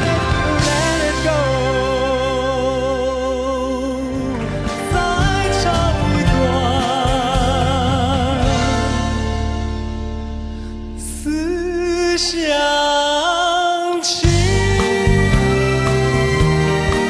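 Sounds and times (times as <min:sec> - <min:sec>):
person singing with vibrato: 0:00.0 - 0:09.4, 0:11.0 - 0:17.0
musical accompaniment: 0:00.0 - 0:11.9, 0:14.2 - 0:17.0.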